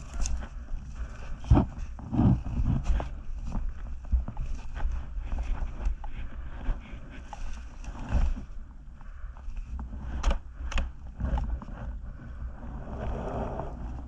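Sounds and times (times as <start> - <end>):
rustling and scraping of twigs: 0.0 - 14.0
steady low rumble: 0.0 - 14.0.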